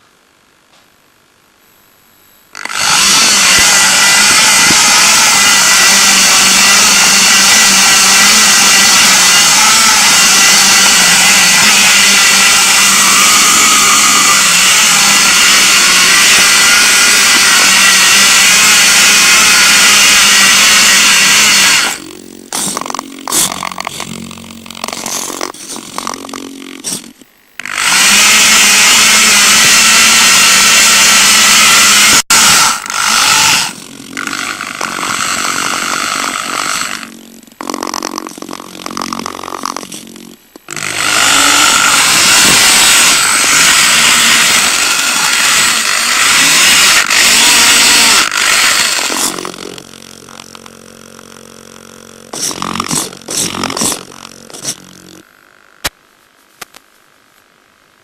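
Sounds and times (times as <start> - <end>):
toy rover motors whirring: 2.5 - 55.2.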